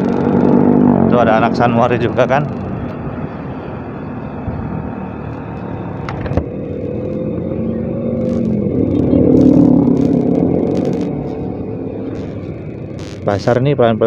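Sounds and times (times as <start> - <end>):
motorcycle engine running: 0.0 - 13.5
motorcycle passing: 0.0 - 13.5
traffic noise: 0.0 - 14.0.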